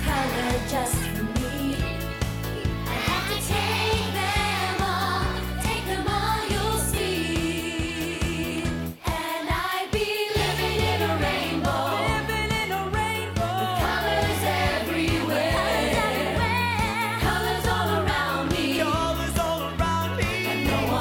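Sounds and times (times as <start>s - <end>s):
bouncing bass line: 0.0s - 9.0s, 10.4s - 21.0s
voices singing pop song: 0.0s - 21.0s
steady beat: 2.3s - 21.0s.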